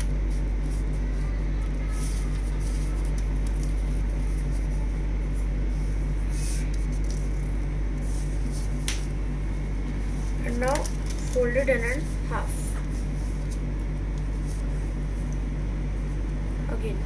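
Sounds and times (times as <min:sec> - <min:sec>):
paper rustling being folded: 0:00.0 - 0:09.2, 0:09.8 - 0:15.3
low electrical hum: 0:00.0 - 0:17.0.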